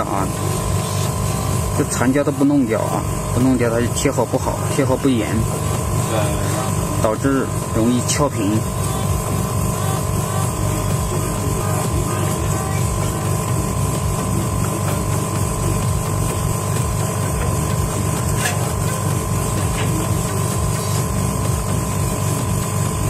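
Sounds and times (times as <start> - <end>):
machine hum: 0.0 - 23.0
machine pulsing rumble: 0.0 - 23.0.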